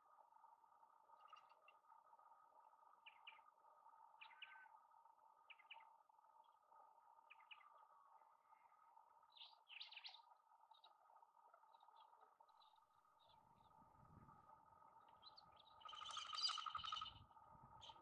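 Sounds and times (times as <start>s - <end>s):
steady faint hum: 0.0s - 18.0s
faint bird chirps: 1.0s - 2.2s, 2.8s - 18.0s.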